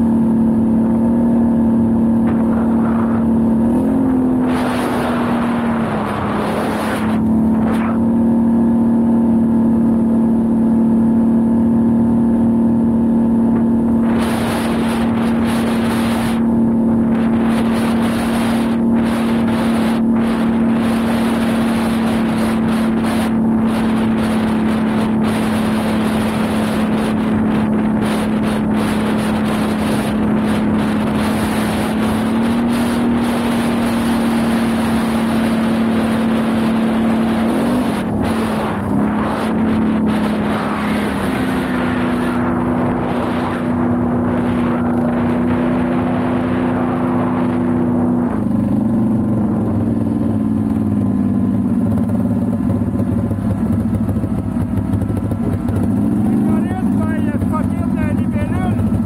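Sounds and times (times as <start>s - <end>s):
wind on microphone: 0.0s - 8.9s, 13.4s - 59.0s
atv engine running: 0.0s - 59.0s.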